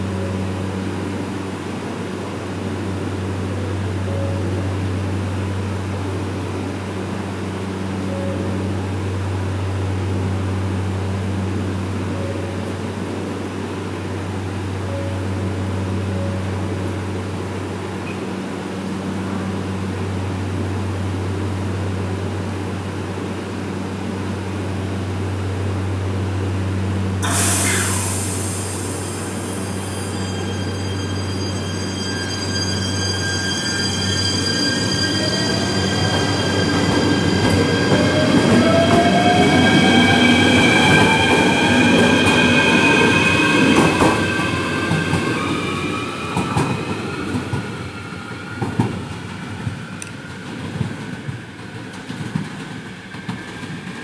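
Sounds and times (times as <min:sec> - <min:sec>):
train equipment humming: 0:00.0 - 0:54.0.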